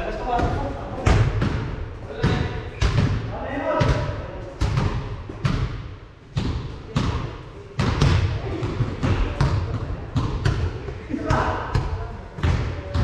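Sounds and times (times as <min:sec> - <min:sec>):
basketball bouncing on gym floor: 0:00.3 - 0:13.0.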